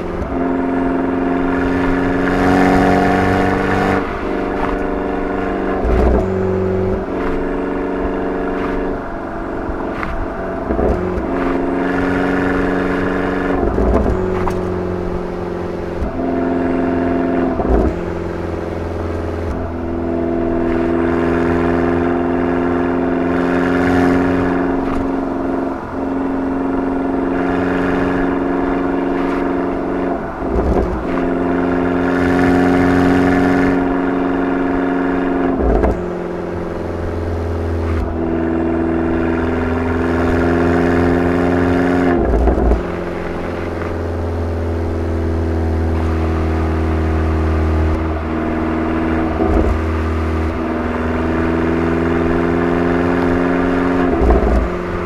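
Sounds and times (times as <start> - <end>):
car engine and exhaust: 0.0 - 55.0.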